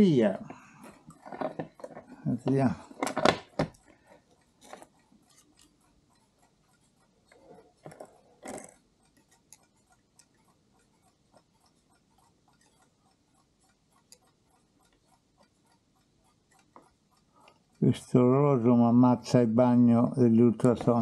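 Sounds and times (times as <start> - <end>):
light ticks and metallic clicks: 0.0 - 21.0.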